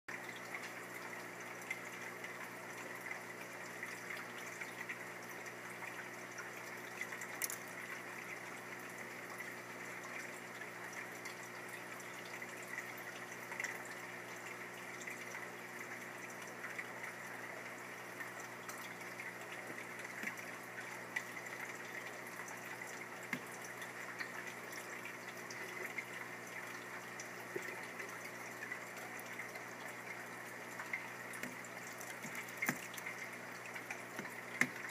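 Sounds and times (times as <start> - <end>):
small drips or clicks: 0.1 - 34.9
water trickling: 0.1 - 34.9.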